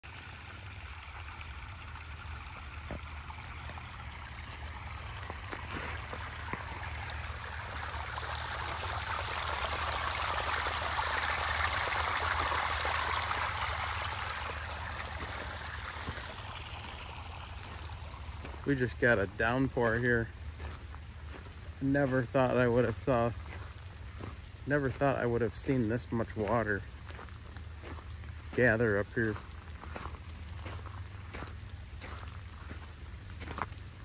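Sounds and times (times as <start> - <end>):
stormwater rushing through drain: 0.0 - 34.0.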